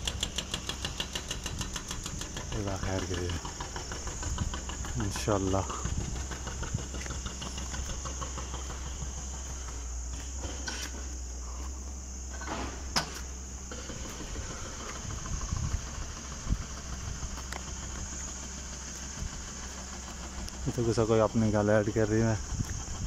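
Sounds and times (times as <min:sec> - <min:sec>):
high insect drone: 0:00.0 - 0:23.0
low rumble: 0:01.3 - 0:23.0.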